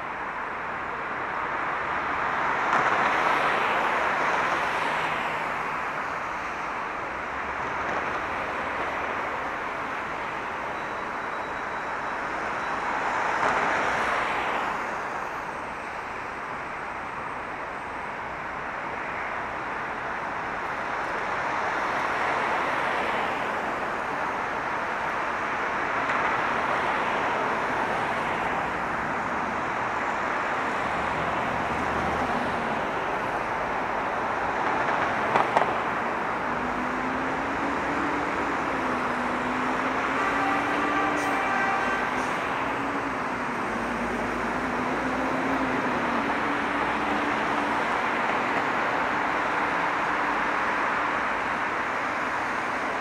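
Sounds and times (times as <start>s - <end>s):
road traffic: 0.0s - 53.0s.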